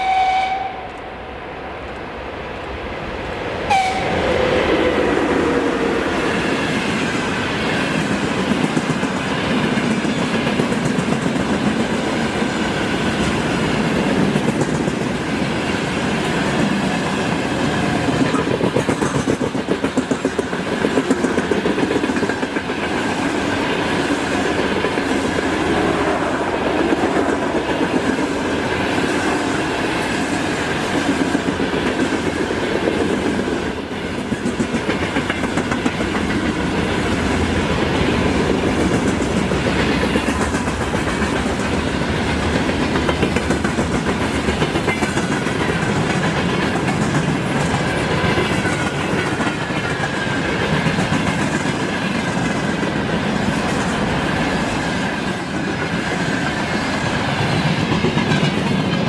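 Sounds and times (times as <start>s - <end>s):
locomotive passing: 1.0s - 59.0s
train wheels clattering over joints: 6.8s - 25.6s, 26.8s - 59.0s.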